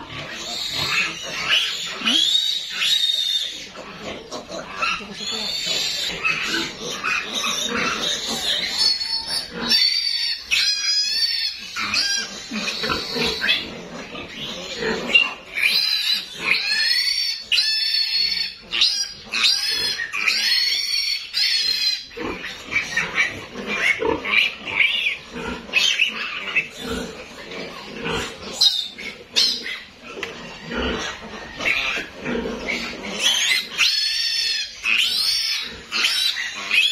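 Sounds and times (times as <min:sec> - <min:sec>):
piglet squealing: 0:00.0 - 0:36.9.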